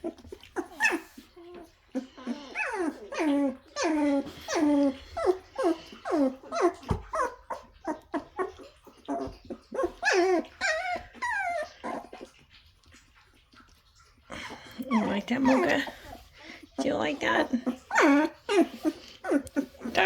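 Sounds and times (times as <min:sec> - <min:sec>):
puppy whining and yipping: 0:00.0 - 0:13.4, 0:14.4 - 0:20.0.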